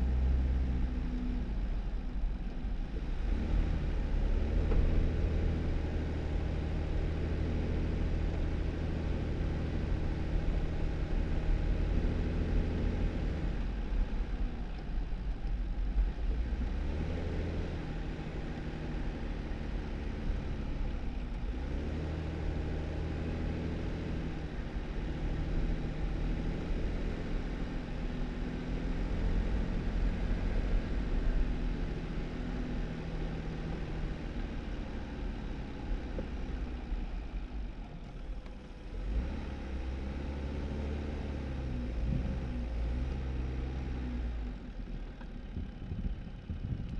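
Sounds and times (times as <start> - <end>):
car engine running: 0.0 - 46.9
tyre road noise: 0.0 - 46.9.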